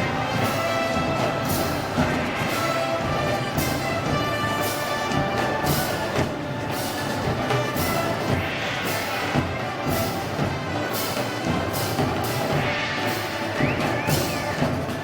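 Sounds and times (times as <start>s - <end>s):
band music with drums: 0.0s - 15.0s.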